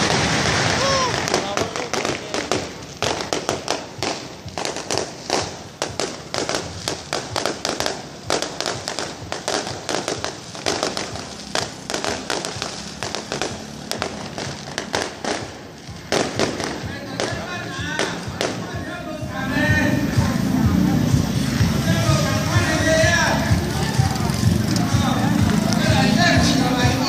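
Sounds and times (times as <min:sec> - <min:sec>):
fireworks and firecrackers banging: 0:00.0 - 0:27.0.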